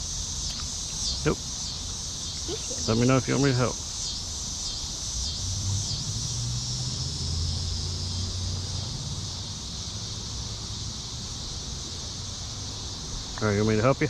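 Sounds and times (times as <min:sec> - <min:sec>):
distant engine hum: 0:00.0 - 0:14.0
insects buzzing: 0:00.0 - 0:14.0.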